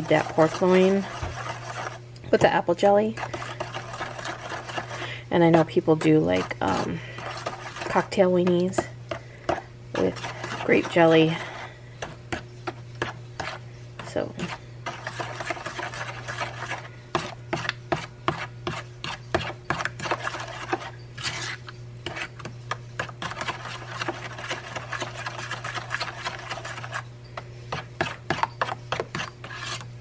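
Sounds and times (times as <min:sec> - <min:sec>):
metal spoon scraping plastic bowl: 0:00.0 - 0:08.9, 0:09.5 - 0:27.1, 0:27.8 - 0:29.9.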